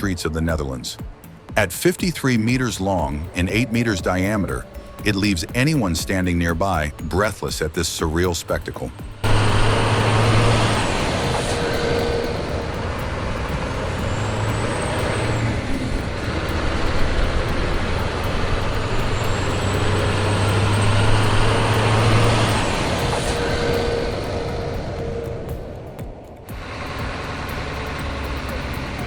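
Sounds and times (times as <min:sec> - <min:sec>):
road noise: 0:00.0 - 0:29.0
truck engine hum: 0:00.0 - 0:29.0.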